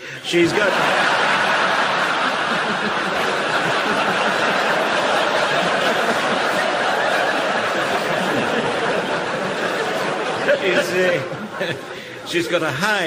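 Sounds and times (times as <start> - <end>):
studio audience laughing: 0.2 - 12.8.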